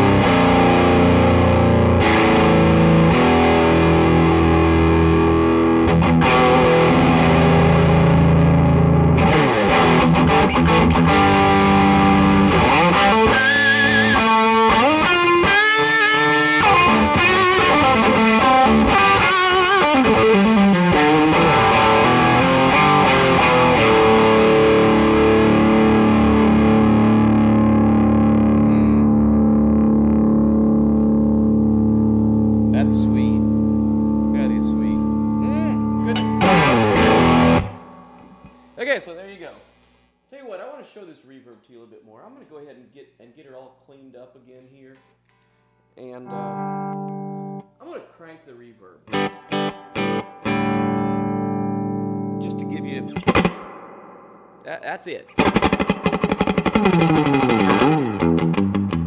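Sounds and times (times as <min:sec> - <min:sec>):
distorted electric guitar: 0:00.0 - 0:38.8, 0:46.0 - 0:47.6, 0:49.0 - 0:59.0.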